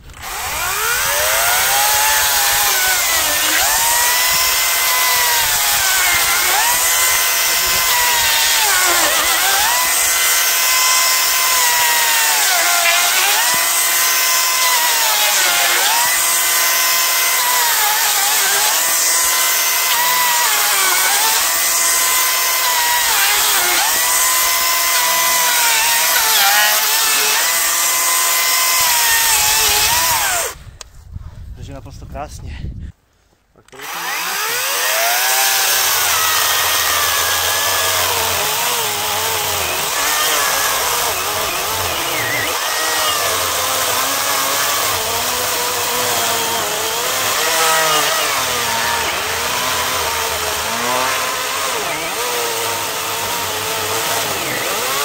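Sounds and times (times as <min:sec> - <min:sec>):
electric chainsaw cutting log: 0:00.0 - 0:30.6, 0:33.7 - 0:55.0.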